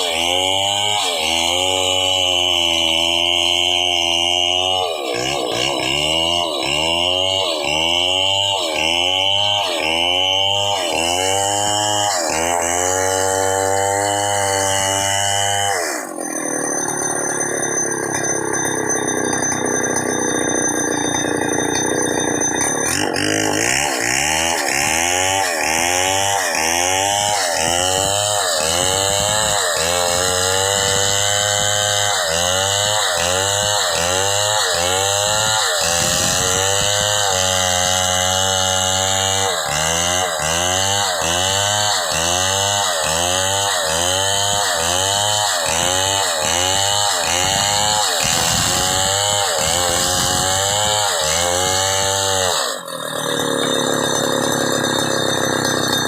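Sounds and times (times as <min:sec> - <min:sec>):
chainsaw engine revving: 0:00.0 - 0:56.0.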